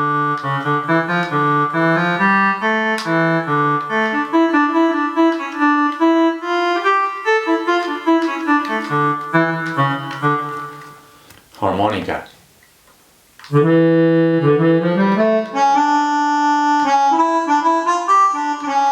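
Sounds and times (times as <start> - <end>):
reedy organ melody: 0.0 - 11.2, 13.5 - 18.9.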